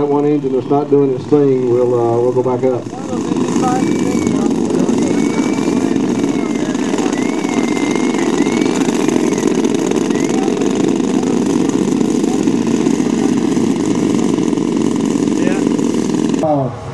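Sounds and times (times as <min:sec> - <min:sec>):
piston aircraft engines droning: 0:00.0 - 0:16.9.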